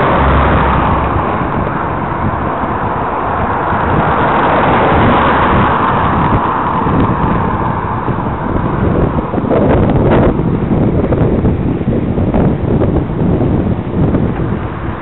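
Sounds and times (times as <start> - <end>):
car overtaking: 0.0 - 15.0
wind rushing over microphone: 0.0 - 15.0.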